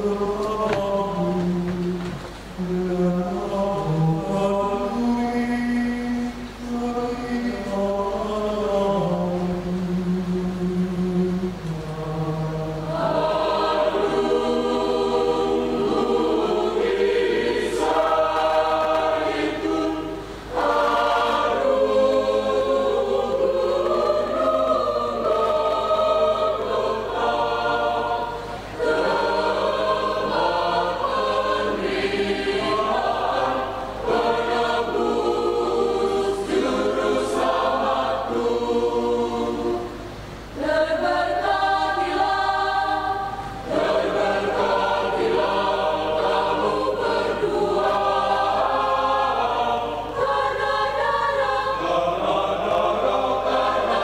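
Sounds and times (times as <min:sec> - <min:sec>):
mixed choir singing in parts: 0:00.0 - 0:54.0.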